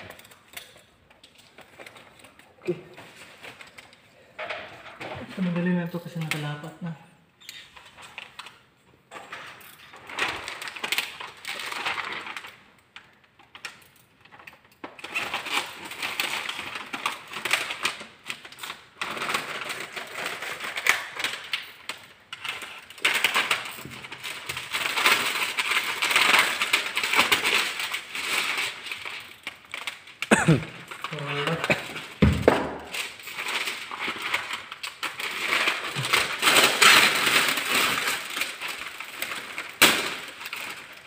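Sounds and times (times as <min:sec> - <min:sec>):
plastic film crackling: 0:00.0 - 0:41.0.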